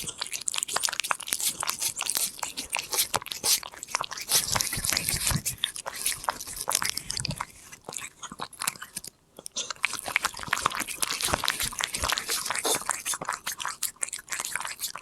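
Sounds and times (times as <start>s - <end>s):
cat crunching a treat: 0.0s - 15.0s.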